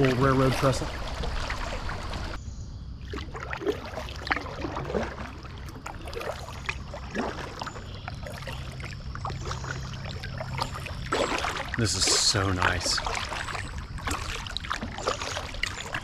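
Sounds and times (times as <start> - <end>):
paddle splashing water: 0.0 - 2.4, 3.0 - 16.0
water dripping: 3.0 - 16.0.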